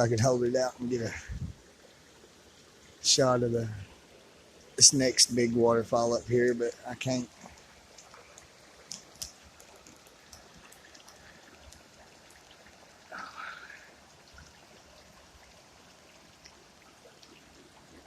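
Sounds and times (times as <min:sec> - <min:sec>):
creek and small waterfalls: 0:00.0 - 0:18.0.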